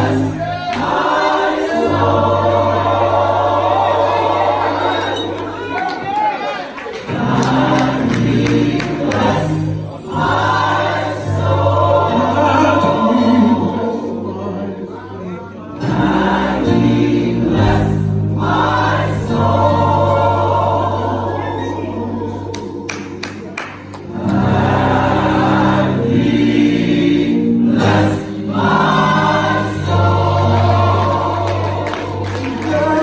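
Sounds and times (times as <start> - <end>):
gospel choir singing: 0.0 - 33.0.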